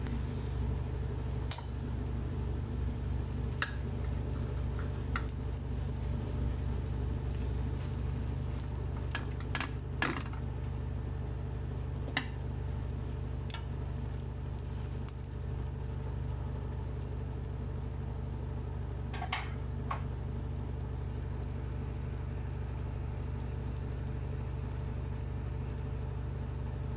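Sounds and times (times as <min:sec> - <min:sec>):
steady low hum: 0:00.0 - 0:26.9
omelette sizzling in a pan: 0:00.6 - 0:26.4.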